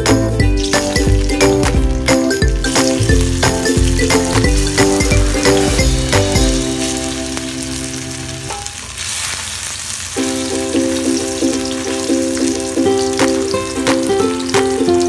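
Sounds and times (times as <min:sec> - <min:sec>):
music with held chords: 0:00.0 - 0:08.7, 0:10.2 - 0:15.0
potatoes sizzling in oil: 0:00.0 - 0:15.0.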